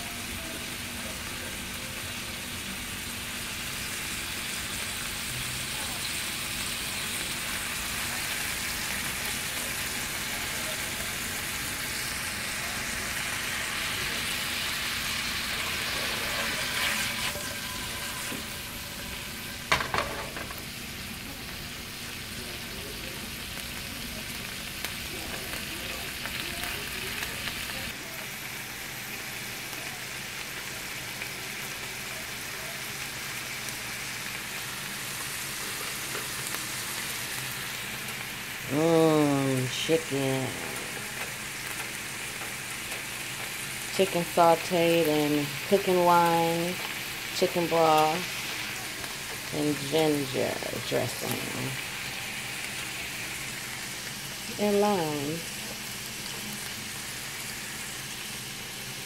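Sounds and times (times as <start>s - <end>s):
food frying in a pan: 0.0s - 59.0s.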